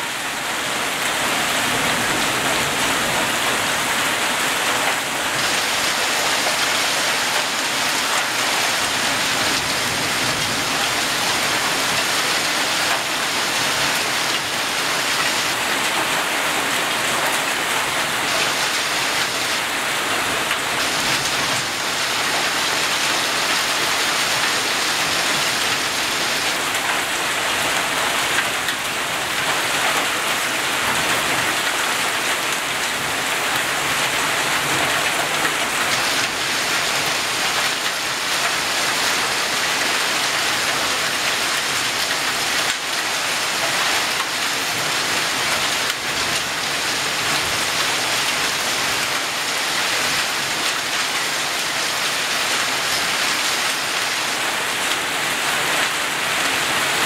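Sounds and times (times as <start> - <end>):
hail and rain falling: 0.0 - 57.0.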